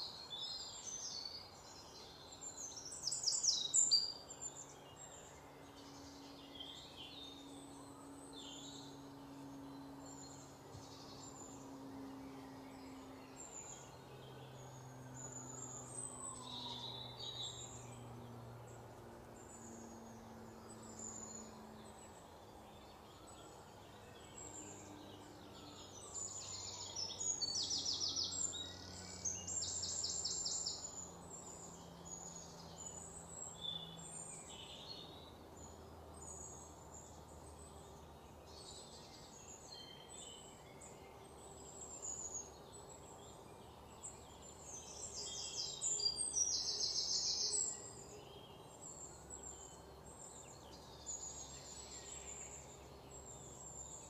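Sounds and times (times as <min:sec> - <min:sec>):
birds chirping and trilling: 0:00.0 - 0:54.0
faint low hum: 0:00.0 - 0:54.0.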